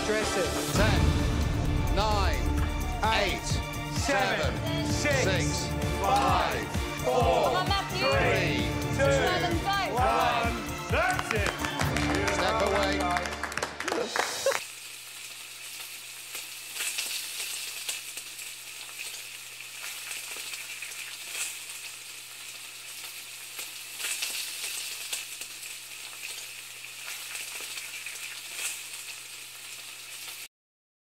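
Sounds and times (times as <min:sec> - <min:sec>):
food sizzling in a pan: 0:00.0 - 0:12.8, 0:13.9 - 0:30.5.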